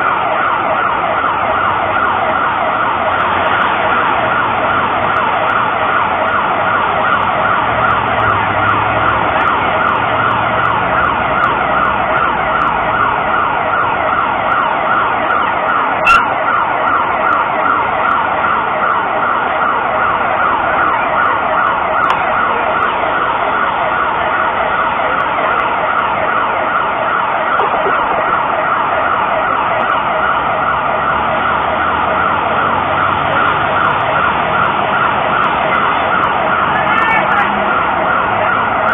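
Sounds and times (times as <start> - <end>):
warbling alert siren: 0.0 - 38.9.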